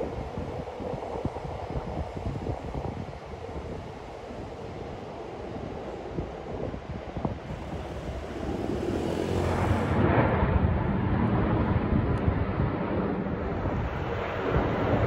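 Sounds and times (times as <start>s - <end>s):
jet airliner rumble overhead: 0.0s - 15.0s.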